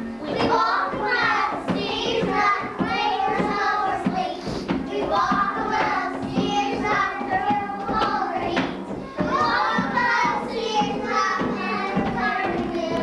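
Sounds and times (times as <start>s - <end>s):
children singing: 0.0s - 13.0s
music accompaniment: 0.0s - 13.0s.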